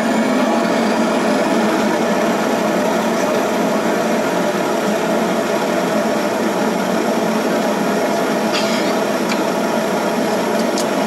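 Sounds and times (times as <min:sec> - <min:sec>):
turboprop engine drone: 0:00.0 - 0:11.0.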